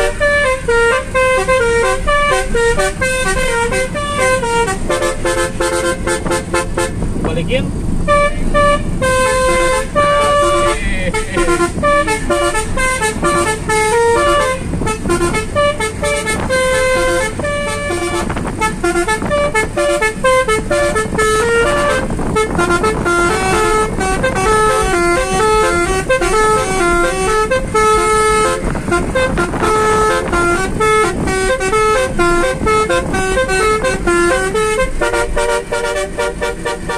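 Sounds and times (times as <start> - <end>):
musical air horn melody: 0.0 - 7.0, 8.0 - 36.9
moving car rumble: 0.0 - 36.9.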